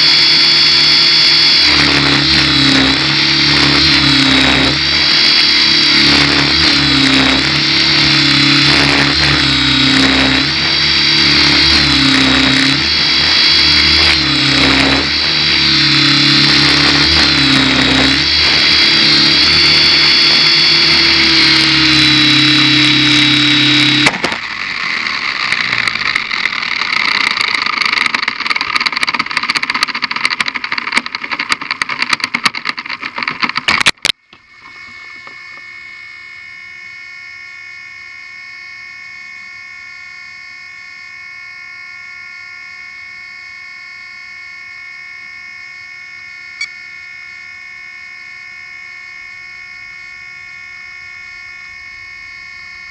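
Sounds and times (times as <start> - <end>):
steady hum of several pitches: 0.0 - 27.6, 34.2 - 52.9
rc helicopter motor whine: 0.0 - 52.9.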